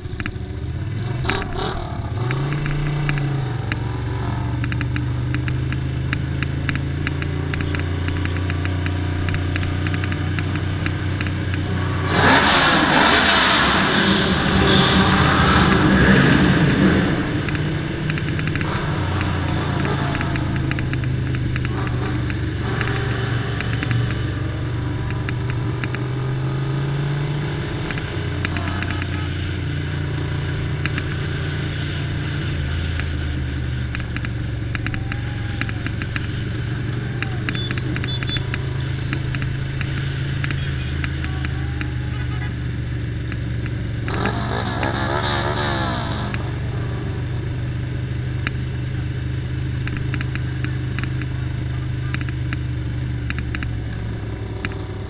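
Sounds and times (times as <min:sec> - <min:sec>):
motorcycle engine at low speed: 0:00.0 - 0:13.6, 0:14.7 - 0:55.0.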